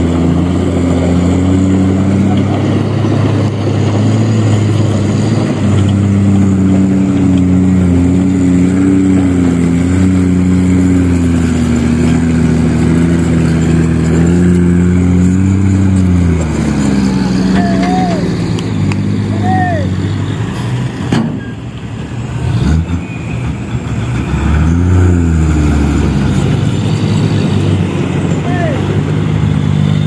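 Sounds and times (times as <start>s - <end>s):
diesel truck engine labouring: 0.0s - 30.0s.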